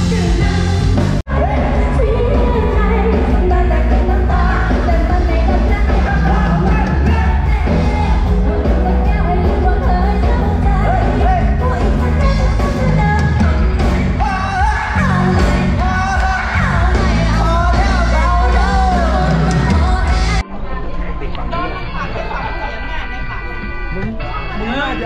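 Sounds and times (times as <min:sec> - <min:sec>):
person singing: 0:00.0 - 0:20.4
drums: 0:00.0 - 0:20.5.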